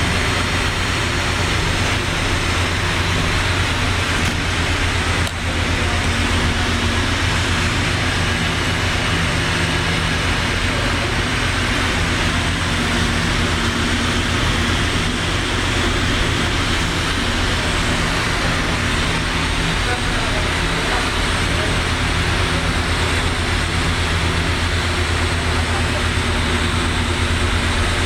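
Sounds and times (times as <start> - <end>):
welding set electrical hum: 0.0 - 28.0.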